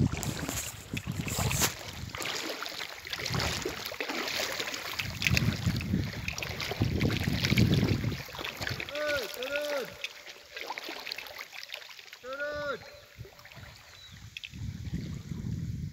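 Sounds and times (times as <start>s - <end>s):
wind buffeting the microphone: 0.0s - 10.1s, 12.4s - 15.9s.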